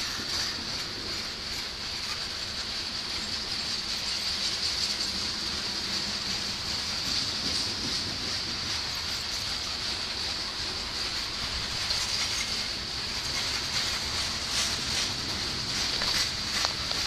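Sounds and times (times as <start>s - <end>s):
freight cars rolling on rails: 0.0s - 17.0s.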